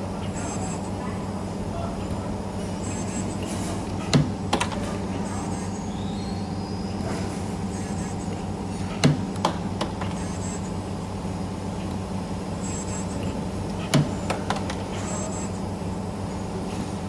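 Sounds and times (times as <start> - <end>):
spring forming machine humming: 0.0 - 17.0.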